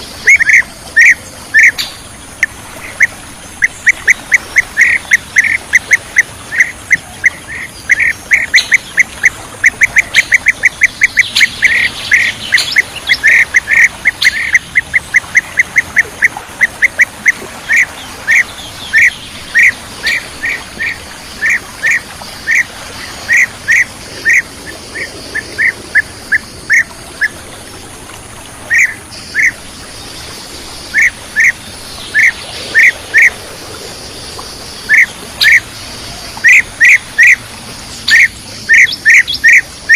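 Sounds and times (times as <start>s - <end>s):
bee-eater calls: 0.0s - 27.5s, 28.6s - 39.9s.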